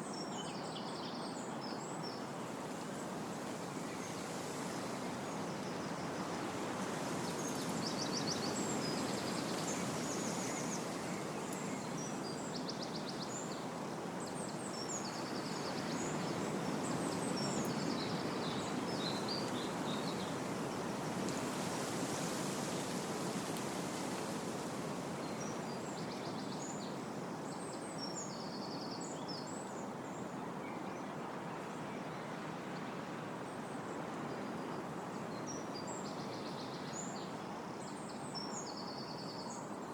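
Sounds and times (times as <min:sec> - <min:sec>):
wind blowing through trees: 0:00.0 - 0:39.9.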